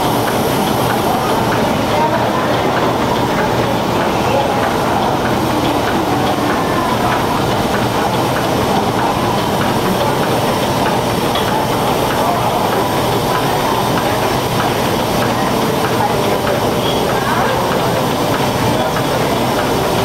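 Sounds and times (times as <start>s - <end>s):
steam engines clattering: 0.0s - 20.0s.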